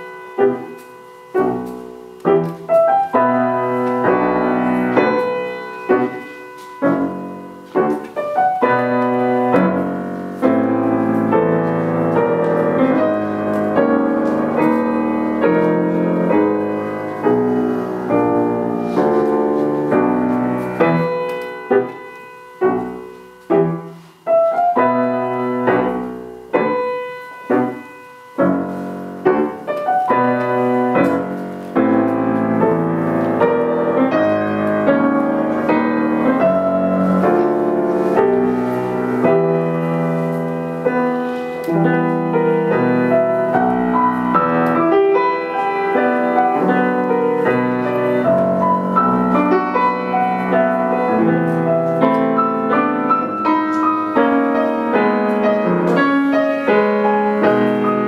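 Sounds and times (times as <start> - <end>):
grand piano playing: 0.0 - 58.0.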